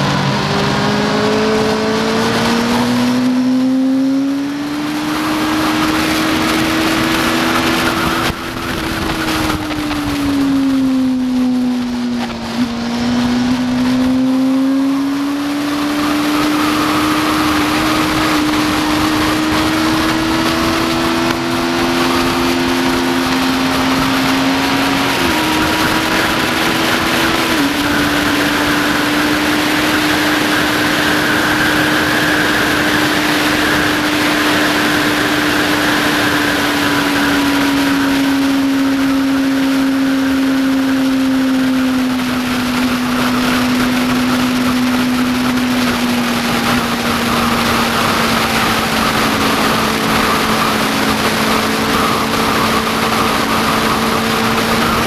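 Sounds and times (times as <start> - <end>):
motorcycle engine at high revs: 0.0 - 55.0
wind on microphone: 0.0 - 55.0.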